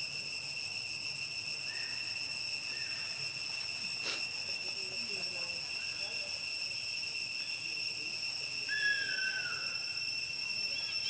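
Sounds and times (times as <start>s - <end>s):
insect chorus whine: 0.0s - 11.0s.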